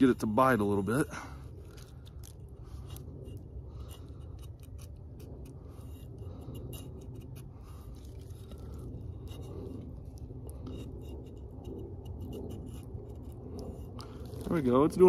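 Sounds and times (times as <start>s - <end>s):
low steady rumble: 0.0s - 15.0s
hatchet scraping wood: 0.6s - 15.0s.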